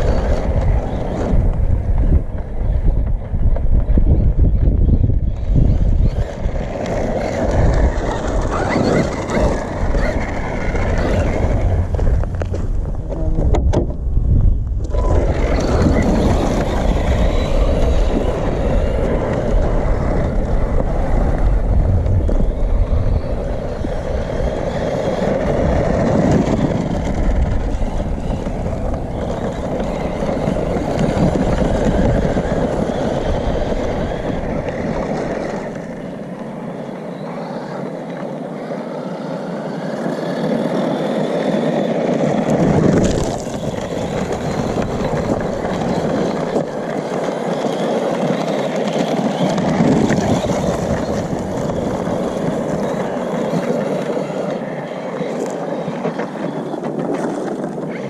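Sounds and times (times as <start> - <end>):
rc truck driving over rough ground: 0.0 - 58.0.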